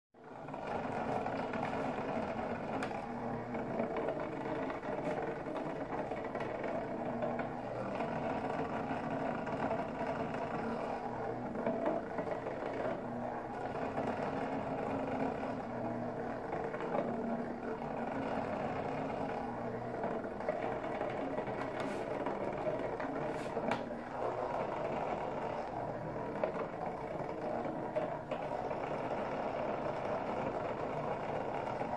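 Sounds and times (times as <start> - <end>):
toy vibration motor buzzing: 0.3 - 31.9.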